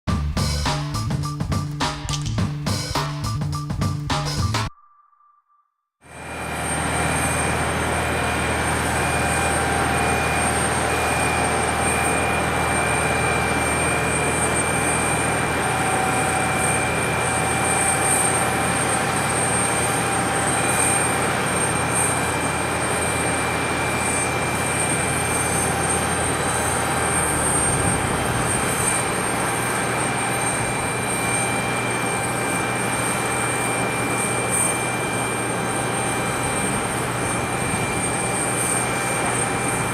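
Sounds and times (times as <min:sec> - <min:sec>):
light aircraft engine and propeller: 0:06.1 - 0:39.9.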